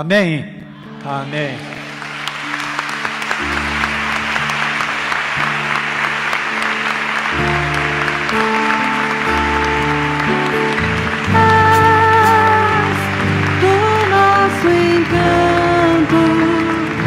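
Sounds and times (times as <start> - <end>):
sustained keyboard chords: 0.6 - 17.0
people applauding: 0.8 - 17.0.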